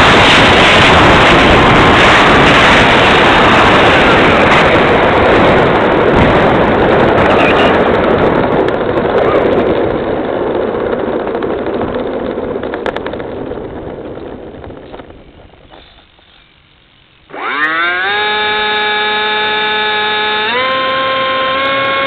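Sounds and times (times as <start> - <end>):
ducted fan jet rushing: 0.0 - 22.0
wind on microphone: 0.0 - 22.0.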